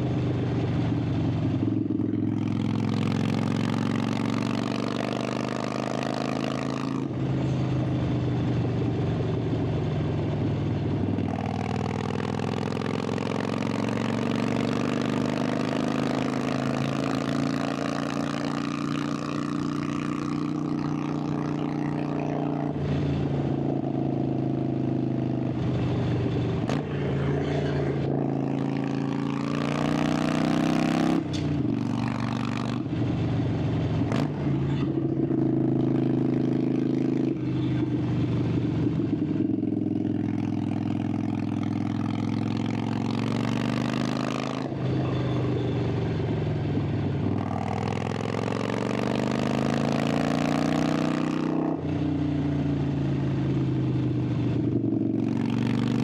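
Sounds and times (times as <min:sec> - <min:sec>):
motorcycle exhaust revving: 0:00.0 - 0:56.0.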